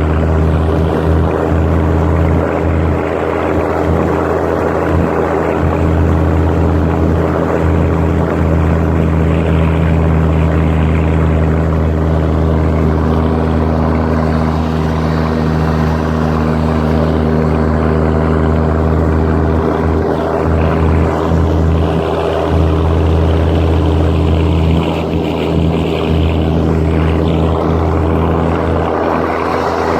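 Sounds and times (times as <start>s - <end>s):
car engine droning: 0.0s - 29.9s.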